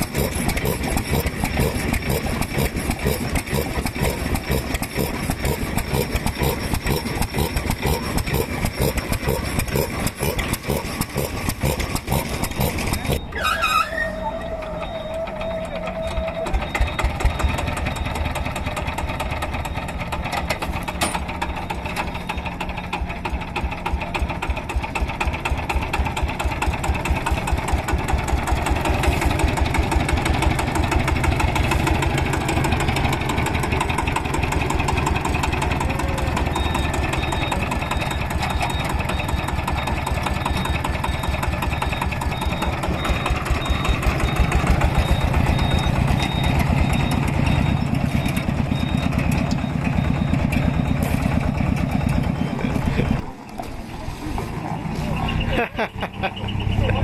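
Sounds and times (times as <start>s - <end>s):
engine exhaust beat: 0.0s - 13.3s, 16.1s - 57.0s.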